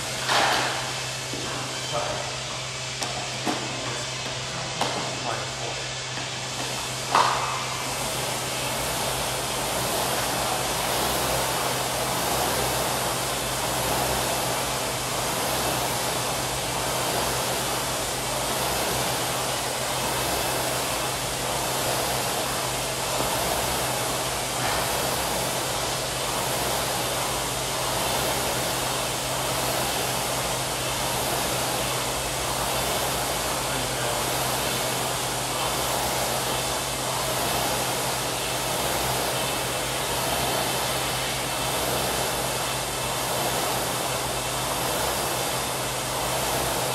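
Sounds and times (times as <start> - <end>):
rowing machine fan whooshing: 0.0 - 46.9.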